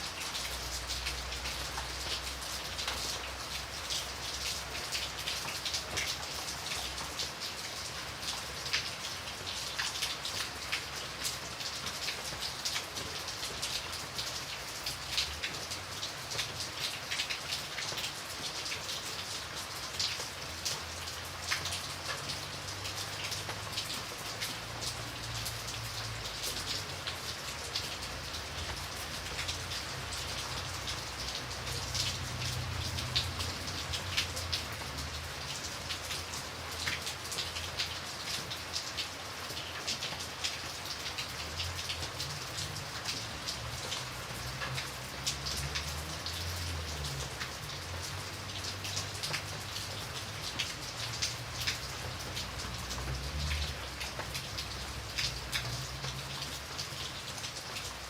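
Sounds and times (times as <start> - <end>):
rain drops pattering: 0.0 - 58.0.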